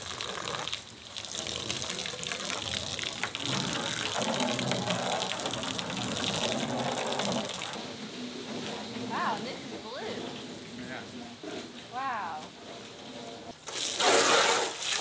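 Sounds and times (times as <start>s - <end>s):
garden hose spraying water: 0.0s - 15.0s.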